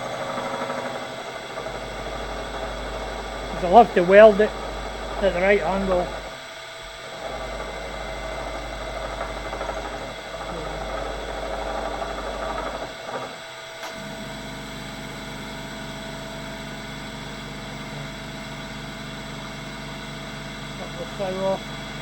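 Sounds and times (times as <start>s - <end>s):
milling machine cutting steel: 0.0s - 22.0s
spindle humming: 0.0s - 22.0s.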